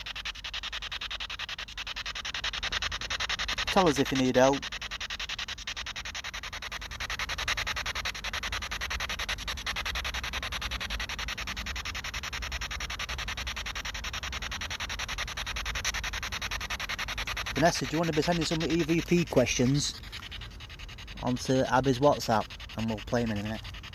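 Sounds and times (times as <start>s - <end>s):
pulsing static from speaker: 0.0s - 23.9s.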